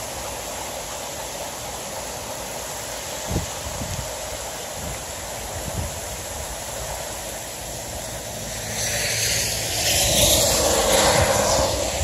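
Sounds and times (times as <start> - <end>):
heavy rain pouring: 0.0 - 12.0
rushing hiss: 0.0 - 12.0.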